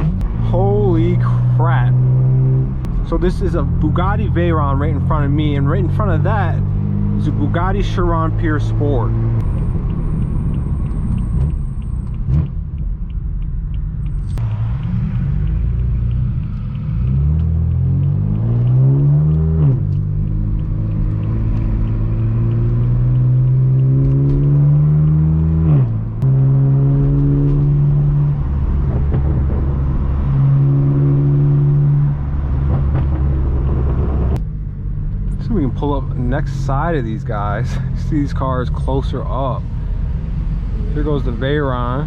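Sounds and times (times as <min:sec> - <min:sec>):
car exhaust revving through gears: 0:00.0 - 0:42.0.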